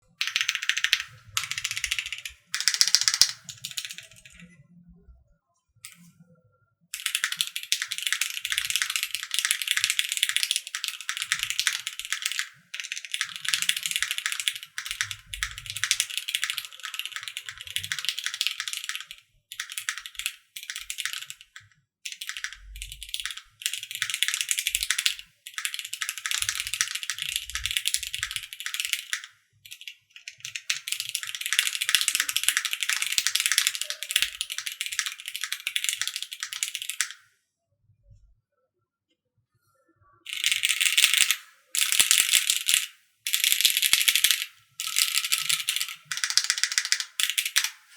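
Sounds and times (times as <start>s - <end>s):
mechanical keyboard typing: 0.0s - 4.6s, 7.0s - 37.2s, 40.3s - 47.9s.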